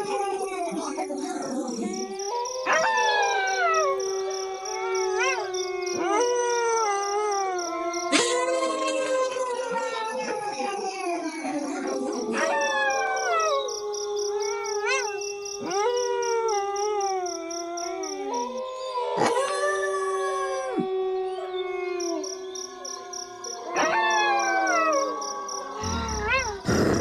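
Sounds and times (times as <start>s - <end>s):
wolves howling in chorus: 0.0s - 27.0s.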